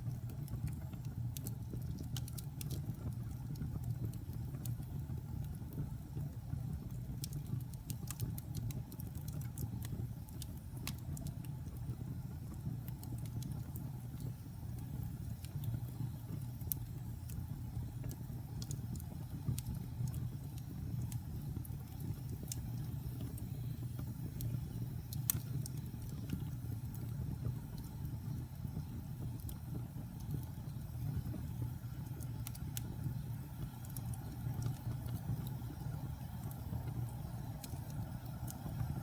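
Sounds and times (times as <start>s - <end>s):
fire popping: 0.0s - 39.0s
low rumble of flames: 0.0s - 39.0s
wood fire crackling: 0.0s - 39.0s.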